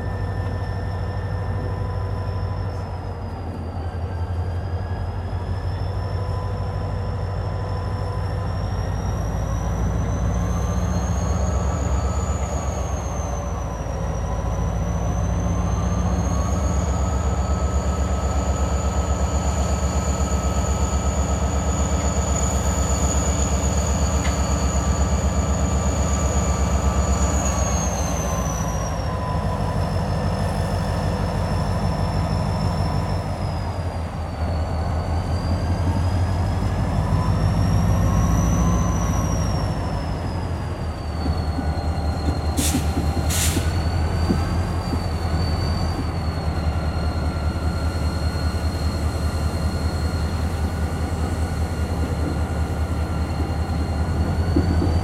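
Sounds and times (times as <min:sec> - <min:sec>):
diesel locomotive engine throbbing: 0:00.0 - 0:55.0
high-pitched wheel squeal: 0:00.0 - 0:55.0.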